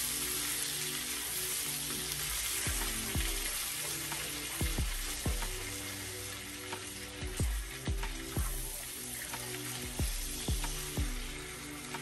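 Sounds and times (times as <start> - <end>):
butter sizzling in a pan: 0.0 - 12.0
background music with bass hits: 2.4 - 12.0.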